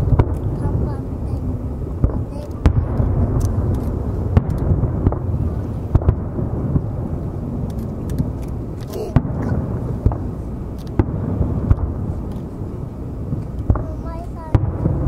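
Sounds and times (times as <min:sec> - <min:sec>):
firework shells bursting: 0:00.0 - 0:15.0
low rumble of booms: 0:00.0 - 0:15.0.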